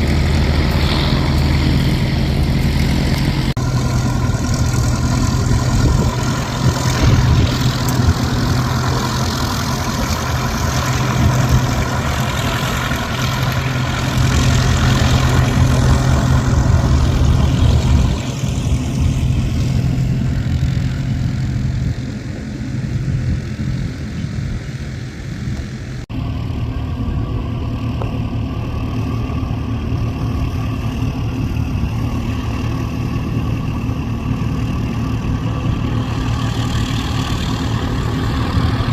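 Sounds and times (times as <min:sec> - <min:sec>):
engine humming: 0:00.0 - 0:38.9.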